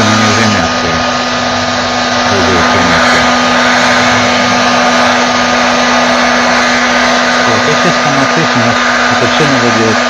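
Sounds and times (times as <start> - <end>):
heat gun blowing air: 0.0 - 10.0.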